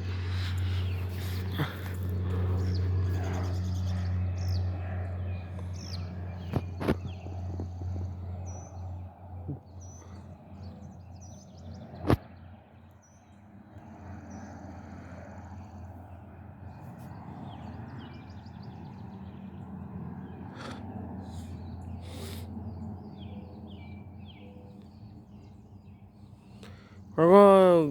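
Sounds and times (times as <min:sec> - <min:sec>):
low outdoor background hum: 0:00.0 - 0:27.9
small birds chirping: 0:00.0 - 0:27.9.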